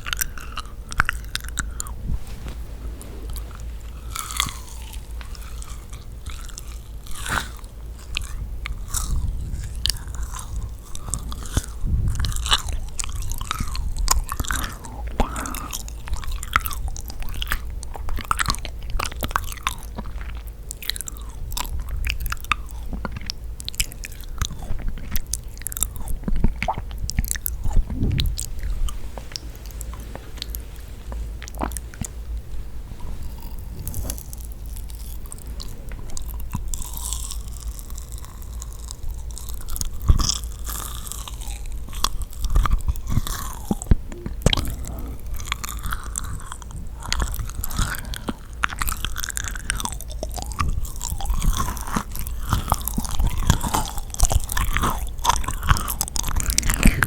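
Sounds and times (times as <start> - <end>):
small crackles of biting: 0.0 - 57.0
sticky chewing and smacking: 0.0 - 57.0.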